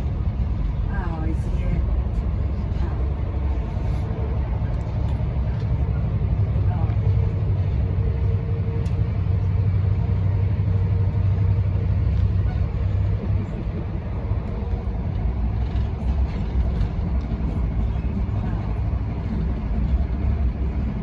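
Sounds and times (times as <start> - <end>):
train rumble from inside carriage: 0.0 - 21.0.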